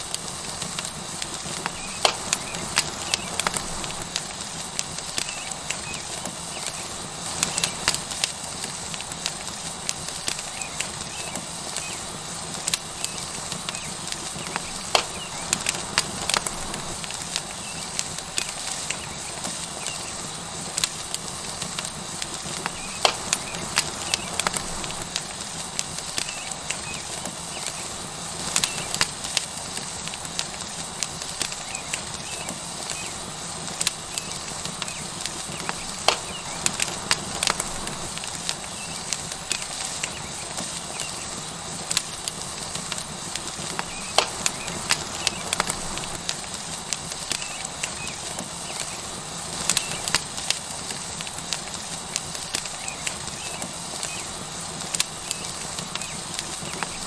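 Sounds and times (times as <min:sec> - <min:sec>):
steak sizzling on hot rock: 0:00.0 - 0:57.0
wood fire crackling and popping: 0:00.0 - 0:57.0.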